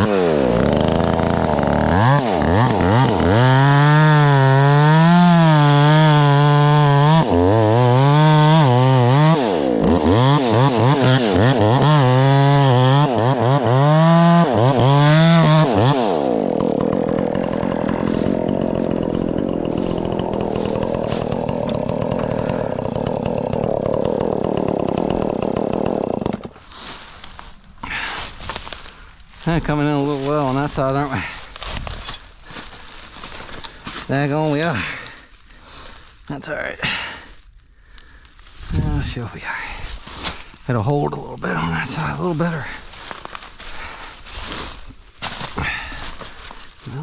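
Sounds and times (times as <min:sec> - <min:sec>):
chainsaw cutting tree trunk: 0:00.0 - 0:36.0, 0:38.0 - 0:47.0.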